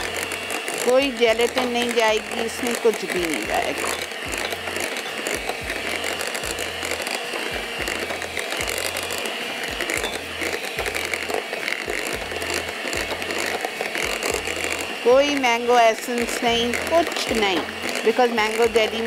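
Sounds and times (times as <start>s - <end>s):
electric hand mixer whisking: 0.0s - 19.0s.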